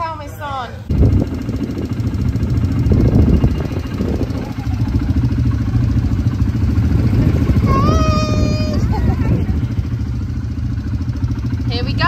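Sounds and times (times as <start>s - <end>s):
quad bike engine idling: 0.0s - 12.0s.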